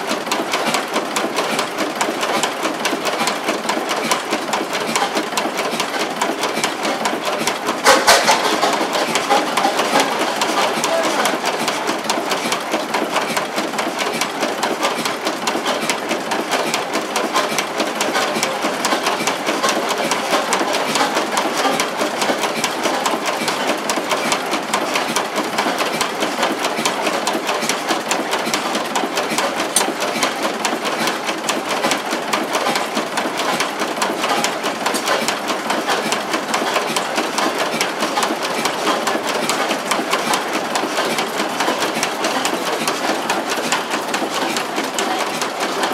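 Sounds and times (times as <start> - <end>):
diesel engine running: 4.0 - 45.9.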